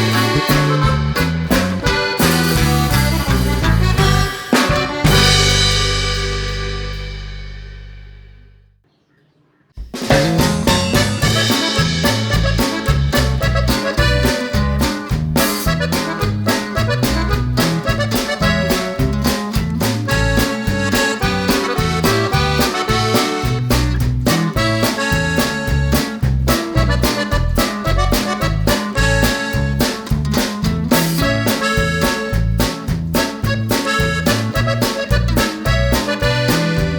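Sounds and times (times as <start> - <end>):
rhythmic bass beat: 0.0 - 8.1, 9.8 - 36.9
accordion-like lead: 0.0 - 8.3, 10.1 - 36.9
upbeat instrumental music: 0.0 - 8.4, 9.8 - 36.9.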